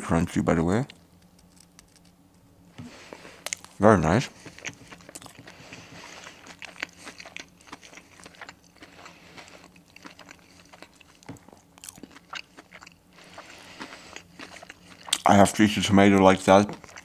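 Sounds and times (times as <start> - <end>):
chewing crispy food: 3.0 - 17.0.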